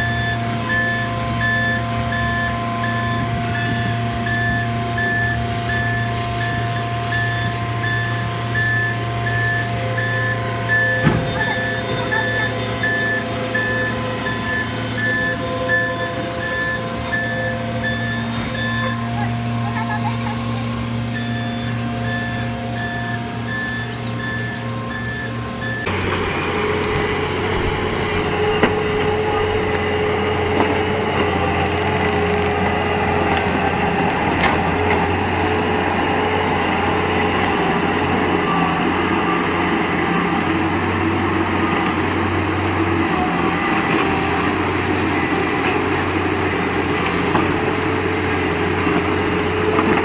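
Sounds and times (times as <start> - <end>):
engine humming: 0.0 - 50.0.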